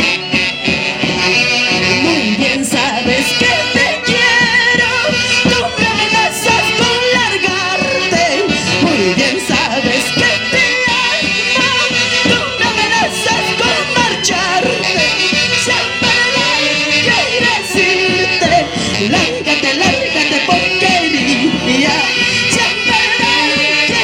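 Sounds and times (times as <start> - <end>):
folk orchestra playing lively tune: 0.0 - 24.0.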